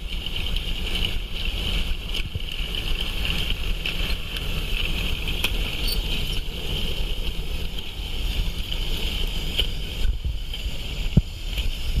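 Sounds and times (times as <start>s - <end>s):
toy train running on track: 0.0s - 12.0s.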